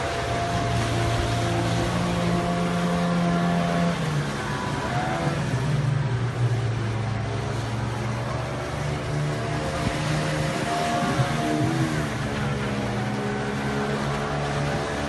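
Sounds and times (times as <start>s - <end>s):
outboard motors droning: 0.0s - 15.0s.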